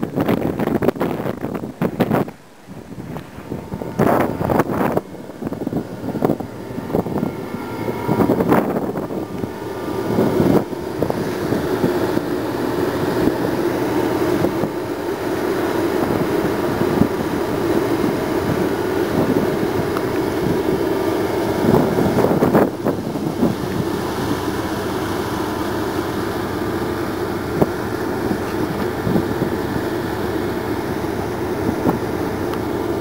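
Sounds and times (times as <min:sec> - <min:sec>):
ship engines droning: 0:00.0 - 0:33.0
wind buffeting microphone: 0:00.0 - 0:33.0.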